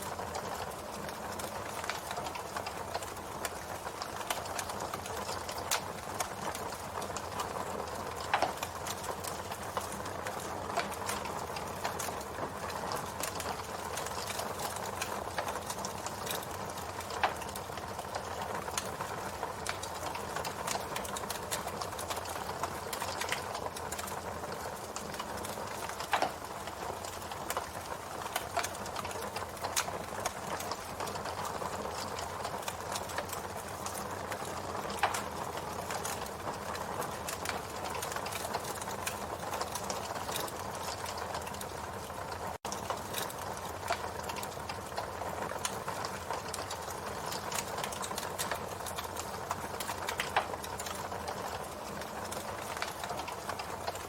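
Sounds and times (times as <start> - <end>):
campfire crackling hiss: 0.0 - 54.0
burning wood popping: 0.2 - 41.7, 42.6 - 54.0.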